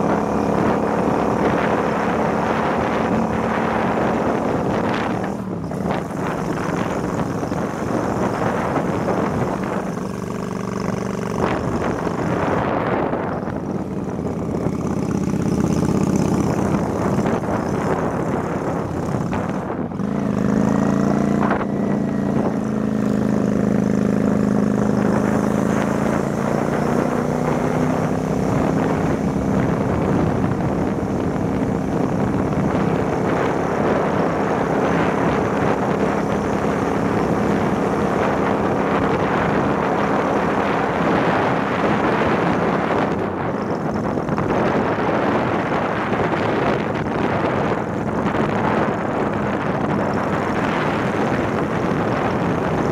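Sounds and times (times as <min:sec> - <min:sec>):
motorbike engine running: 0:00.0 - 0:52.9
wind buffeting microphone: 0:00.0 - 0:52.9.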